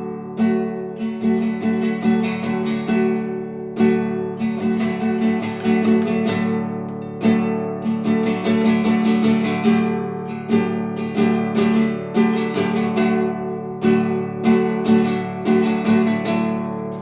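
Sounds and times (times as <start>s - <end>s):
fingerstyle classical guitar: 0.0s - 17.0s.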